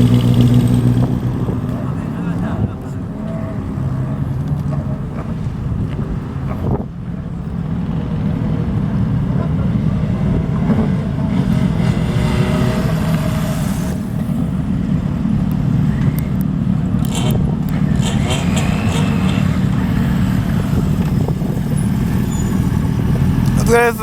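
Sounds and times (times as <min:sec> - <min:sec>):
motorcycle engines rumbling: 0:00.0 - 0:24.0.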